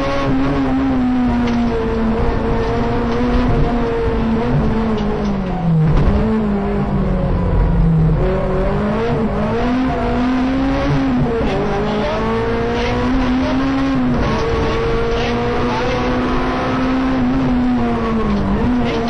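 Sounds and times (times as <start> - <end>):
car engine revving high: 0.0 - 19.0
road noise: 0.0 - 19.0.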